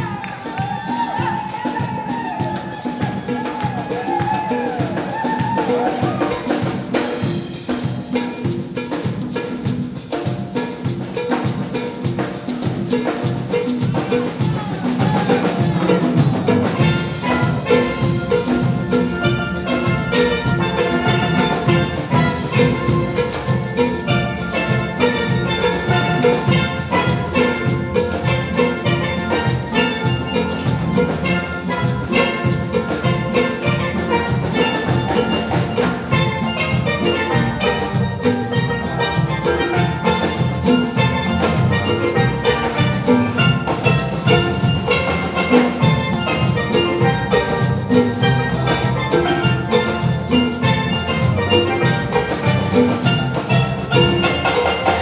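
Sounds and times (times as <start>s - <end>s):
steady drum rhythm: 0.0s - 55.0s
steelpans playing melody: 0.0s - 55.0s.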